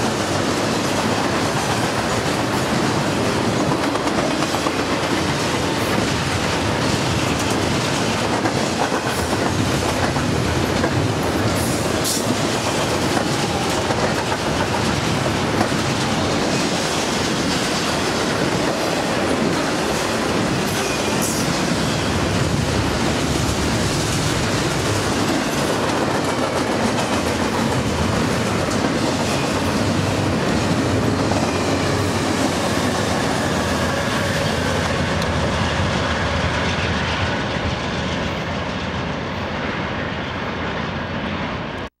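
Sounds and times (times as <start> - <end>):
freight train wheels on rails: 0.0 - 41.9.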